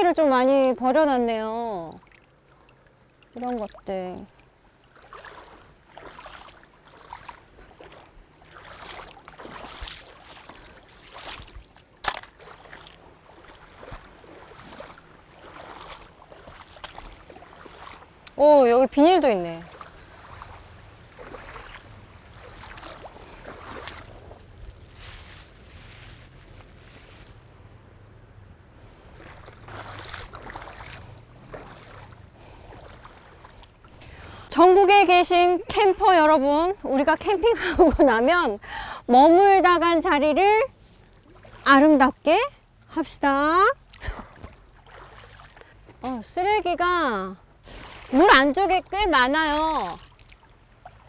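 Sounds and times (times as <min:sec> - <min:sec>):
water sloshing and splashing: 0:00.0 - 0:51.0
stream current rushing: 0:04.4 - 0:42.0, 0:43.8 - 0:51.0.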